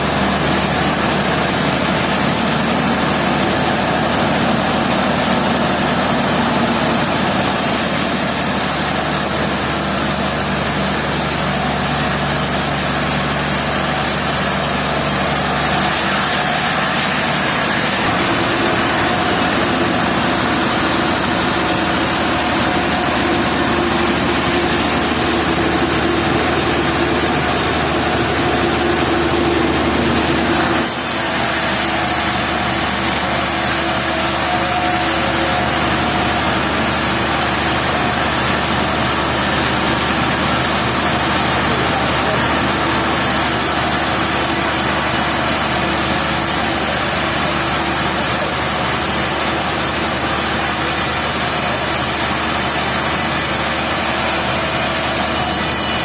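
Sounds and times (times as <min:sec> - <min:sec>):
sawmill machinery engine running: 0:00.0 - 0:56.0.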